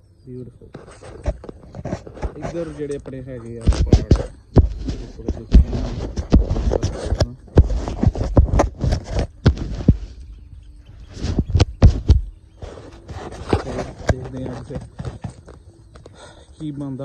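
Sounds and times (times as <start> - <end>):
hooves and footsteps on wet concrete: 0.9 - 10.4, 11.0 - 16.2.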